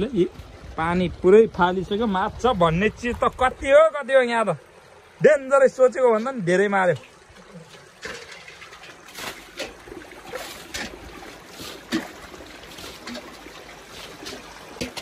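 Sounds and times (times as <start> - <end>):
small water splashes: 0.0 - 15.0
trickling water: 0.0 - 15.0.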